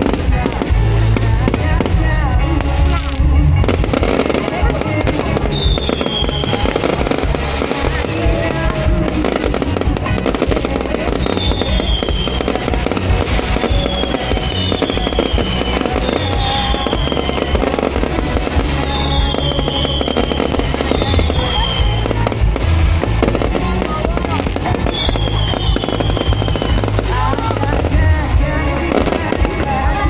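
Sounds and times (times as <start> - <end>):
fireworks bangs and crackles: 0.0 - 30.0
fireworks falling whistles: 0.0 - 30.0.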